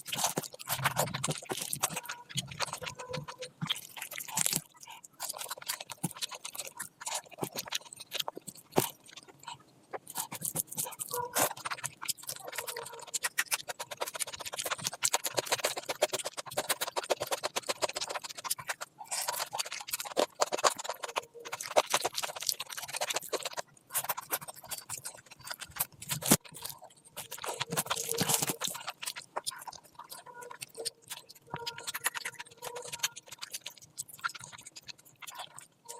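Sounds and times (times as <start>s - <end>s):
chewing: 0.0s - 35.9s
wet mouth clicks: 0.0s - 35.9s.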